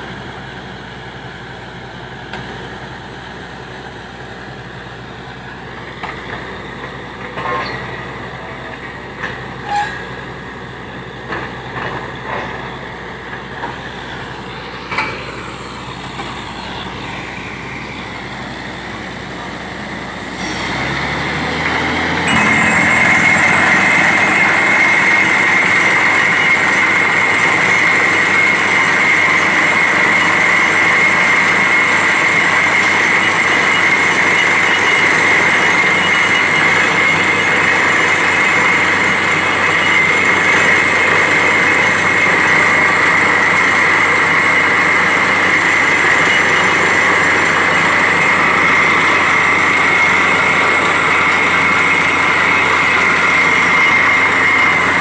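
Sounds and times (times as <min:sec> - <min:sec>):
high mechanical whine: 0:00.0 - 0:55.0
drilling rig mechanical din: 0:05.1 - 0:55.0.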